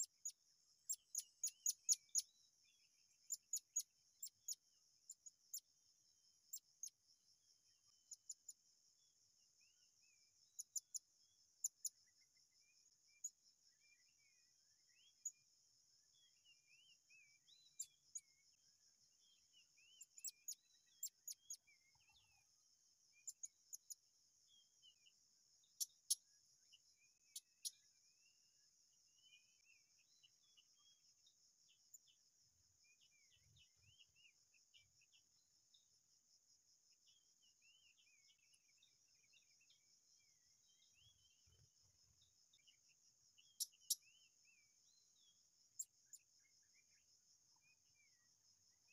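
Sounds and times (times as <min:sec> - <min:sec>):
small birds twittering: 0:00.0 - 0:48.9
insects droning: 0:00.1 - 0:48.9.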